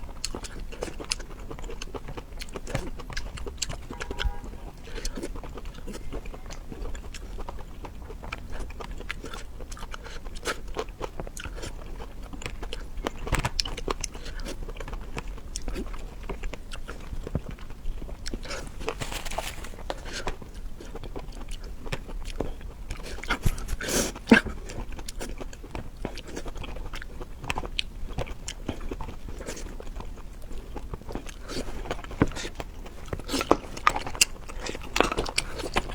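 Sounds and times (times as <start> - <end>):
chewing crunchy food: 0.0 - 35.9.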